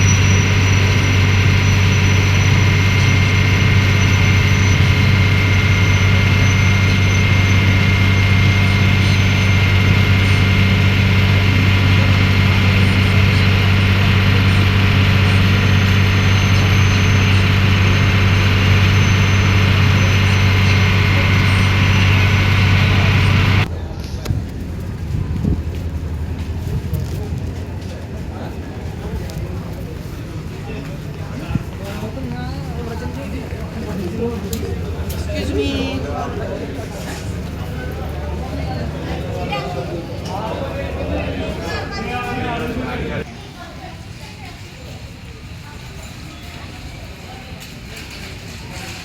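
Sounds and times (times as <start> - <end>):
boat engine droning: 0.0 - 43.3
thin steady whine: 0.0 - 43.3.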